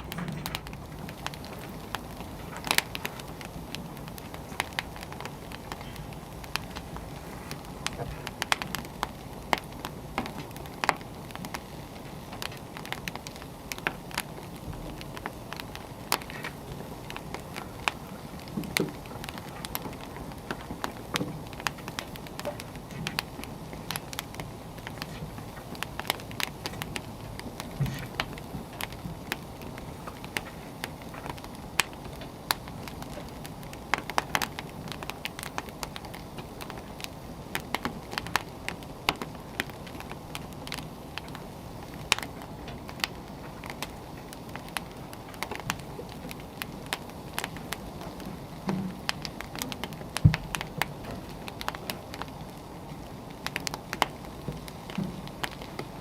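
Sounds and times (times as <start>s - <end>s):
fire low hiss: 0.0s - 56.0s
firewood crackling and popping: 0.0s - 56.0s.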